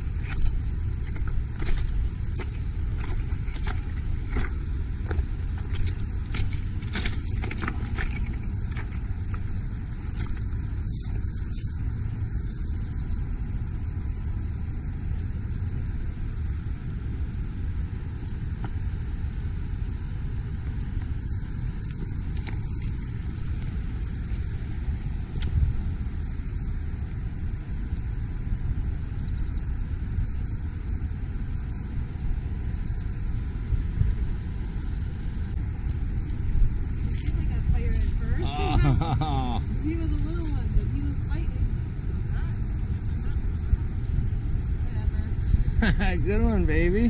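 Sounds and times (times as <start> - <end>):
steady outdoor rumble: 0.0 - 47.0
wind buffeting microphone: 0.0 - 47.0.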